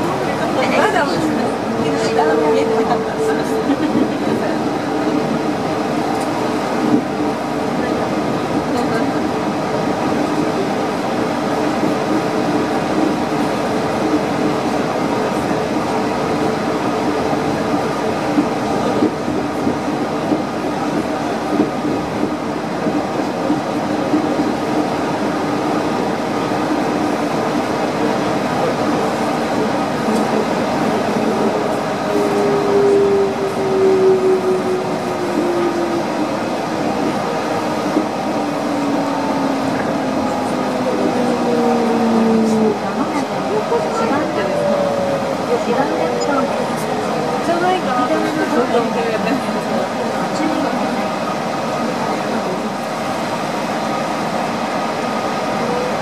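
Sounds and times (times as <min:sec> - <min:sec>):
train running noise and hum: 0:00.0 - 0:56.0.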